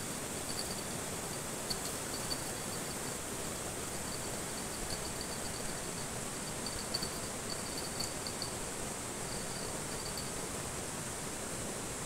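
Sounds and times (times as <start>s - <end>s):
insects chirping in trills: 0.0s - 10.4s.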